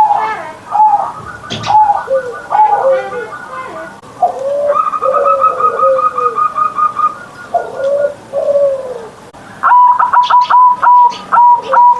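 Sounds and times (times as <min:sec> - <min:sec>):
sharp repeated bird notes: 0:00.0 - 0:08.2, 0:09.4 - 0:11.9
dove cooing: 0:00.0 - 0:11.9.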